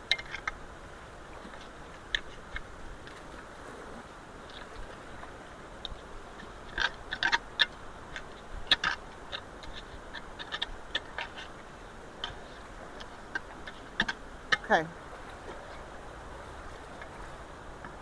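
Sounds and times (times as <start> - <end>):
floodwater rushing through culvert: 0.0 - 18.0.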